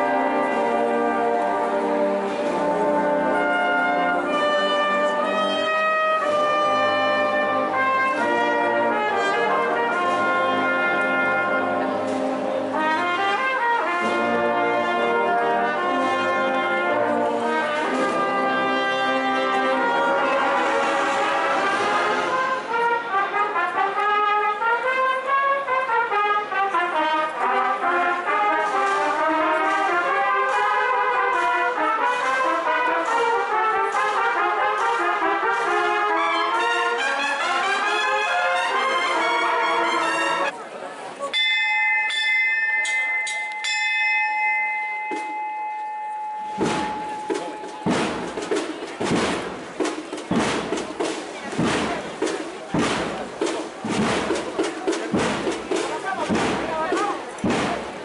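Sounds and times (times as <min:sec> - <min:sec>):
marching brass band playing: 0:00.0 - 0:40.6, 0:46.4 - 0:58.0.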